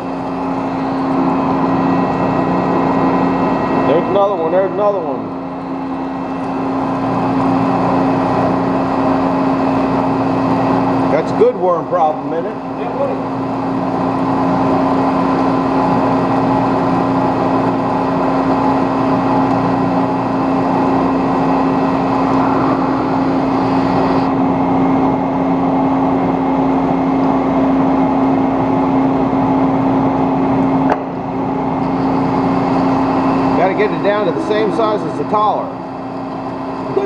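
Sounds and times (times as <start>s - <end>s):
metal lathe humming: 0.0s - 37.0s.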